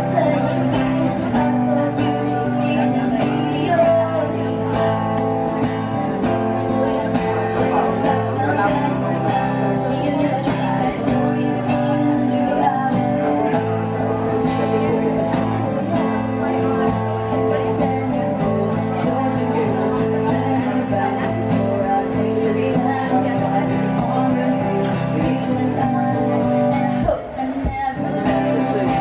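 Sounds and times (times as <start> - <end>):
music with plucked guitar and beat: 0.0 - 29.0.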